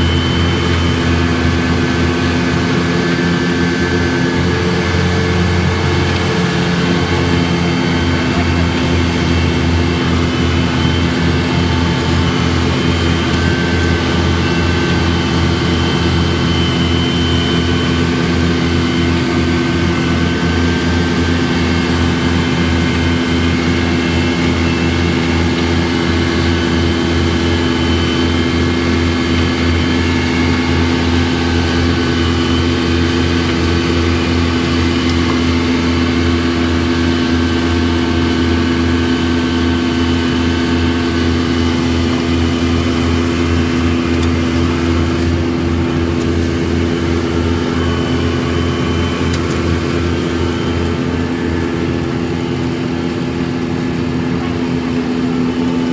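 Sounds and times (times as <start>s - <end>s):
paver engine humming: 0.0s - 55.9s.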